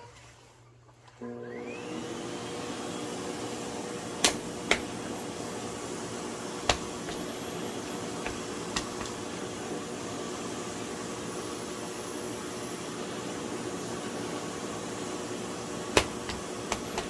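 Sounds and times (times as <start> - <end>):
vacuum cleaner motor whine: 1.2 - 17.0.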